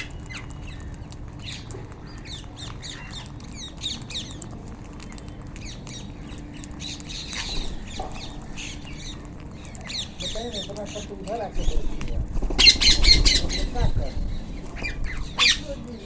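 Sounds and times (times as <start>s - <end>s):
parakeets squawking and chattering: 0.0s - 16.0s.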